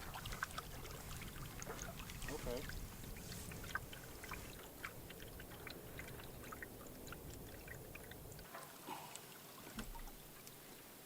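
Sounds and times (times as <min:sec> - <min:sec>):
paddle dipping in water: 0:00.0 - 0:11.0
water drips and splashes: 0:00.0 - 0:11.0.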